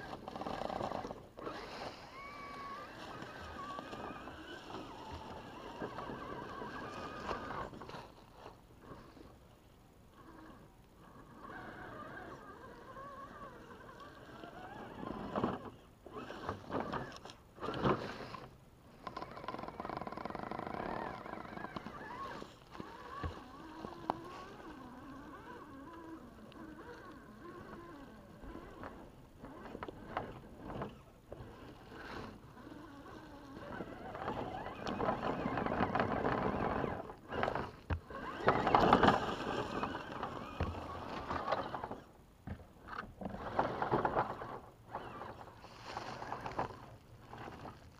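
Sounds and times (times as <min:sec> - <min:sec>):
electric motor and gearbox whining: 0:00.0 - 0:09.0, 0:10.1 - 0:47.9.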